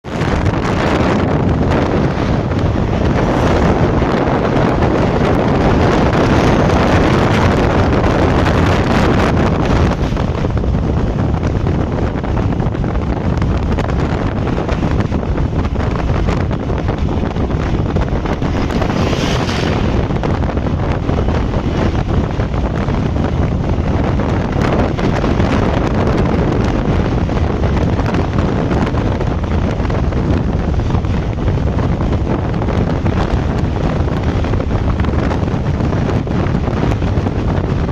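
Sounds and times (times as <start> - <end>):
vehicle road noise at speed: 0.0 - 37.9
wind buffeting microphone: 0.0 - 37.9.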